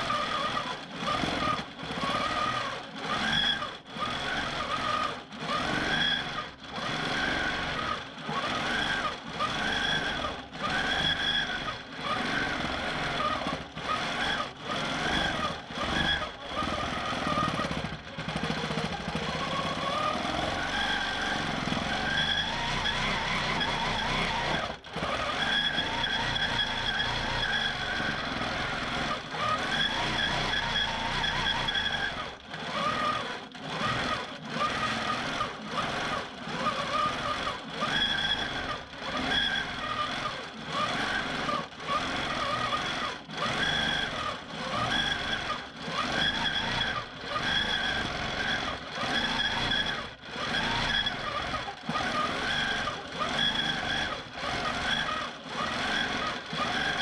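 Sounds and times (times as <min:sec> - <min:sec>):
quilting machine stitching: 0:00.0 - 0:57.0.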